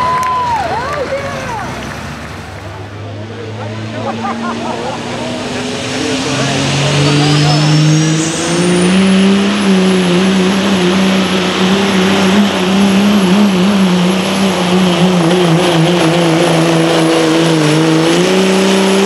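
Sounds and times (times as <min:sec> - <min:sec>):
diesel engine at high revs: 0:00.0 - 0:19.0.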